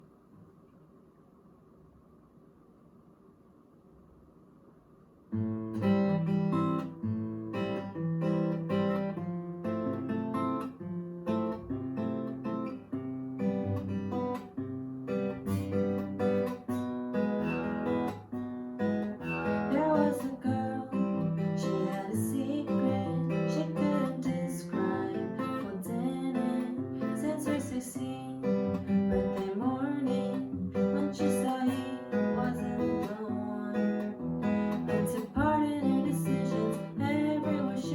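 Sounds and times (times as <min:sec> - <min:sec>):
acoustic guitar strumming: 0:05.4 - 0:37.9.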